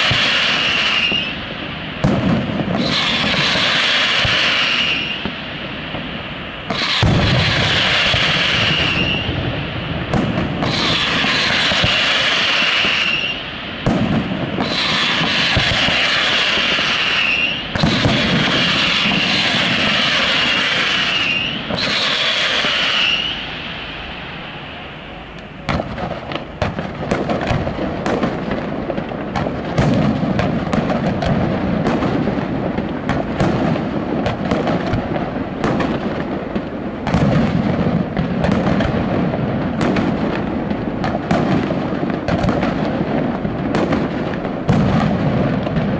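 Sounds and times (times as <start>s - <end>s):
fireworks bangs and pops: 0.0s - 45.9s
fireworks hissing whistles: 0.0s - 45.9s.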